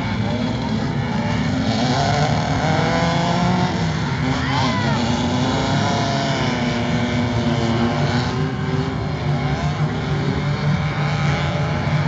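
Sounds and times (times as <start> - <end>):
racing vehicle engines revving: 0.0 - 12.0.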